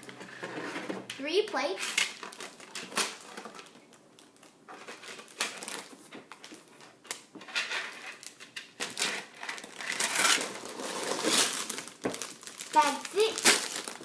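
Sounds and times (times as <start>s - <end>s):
plastic bags crinkling: 2.0s - 7.3s, 7.9s - 14.0s.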